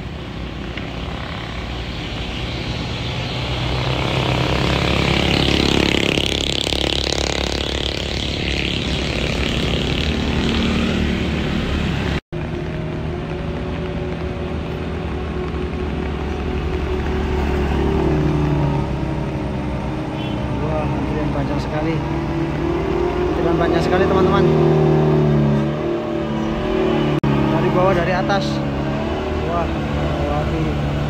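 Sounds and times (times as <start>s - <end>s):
engine whine: 0.0s - 31.0s
vehicle engine climbing hill: 0.0s - 31.0s.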